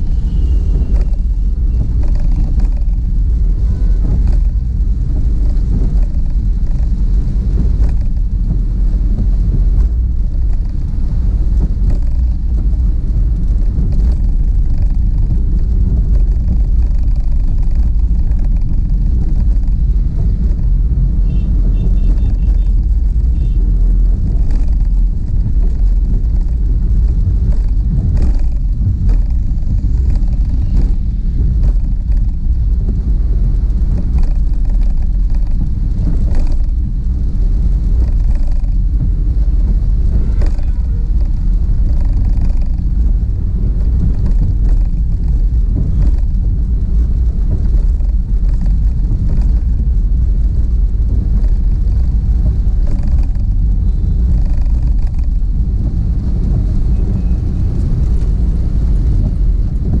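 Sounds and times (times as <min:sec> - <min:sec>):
car driving on wet road: 0:00.0 - 1:00.0.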